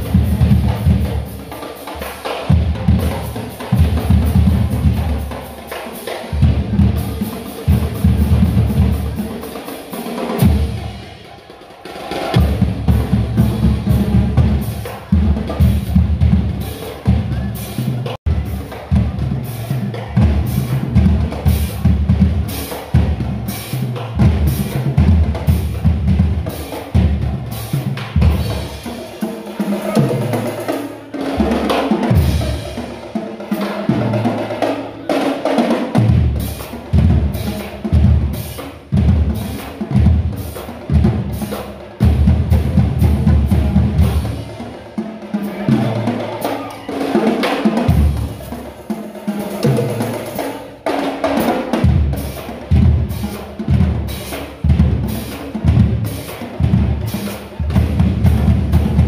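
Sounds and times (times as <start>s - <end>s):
fast snare drum: 0.0s - 59.0s.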